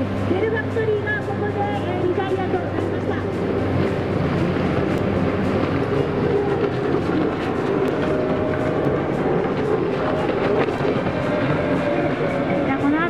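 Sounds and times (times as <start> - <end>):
jet ski engine drone: 0.0 - 13.0.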